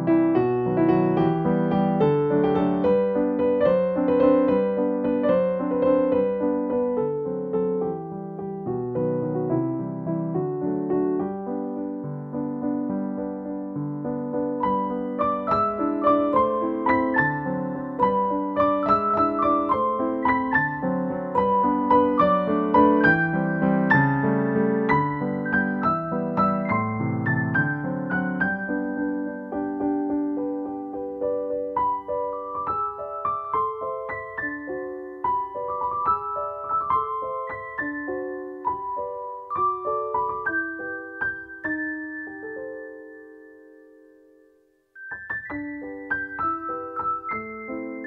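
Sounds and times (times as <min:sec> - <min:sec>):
gentle piano melody: 0:00.0 - 0:48.0.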